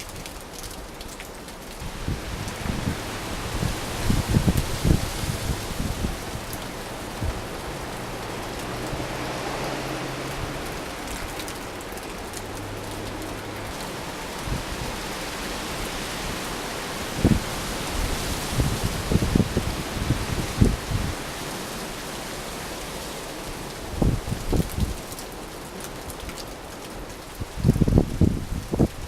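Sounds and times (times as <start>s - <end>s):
steady rain hiss: 0.0s - 29.0s
wind gusts buffeting microphone: 1.8s - 22.6s, 23.4s - 25.0s, 27.4s - 29.0s.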